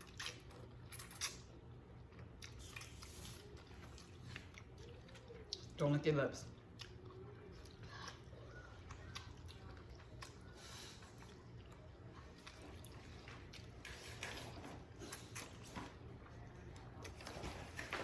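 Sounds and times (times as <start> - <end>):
faint chewing and biting: 0.0 - 5.8, 6.4 - 18.0
low steady hum: 0.0 - 18.0.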